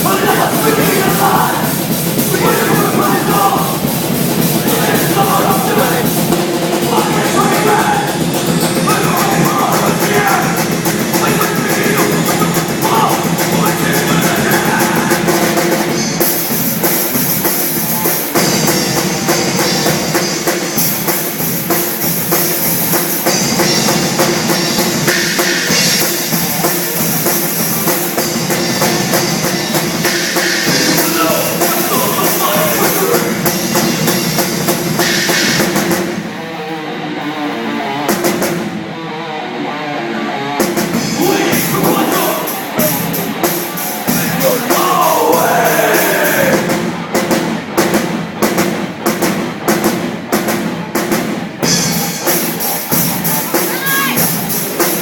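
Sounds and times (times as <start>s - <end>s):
pounding drum kit: 0.0s - 39.0s, 40.6s - 55.0s
live heavy metal band: 0.0s - 55.0s.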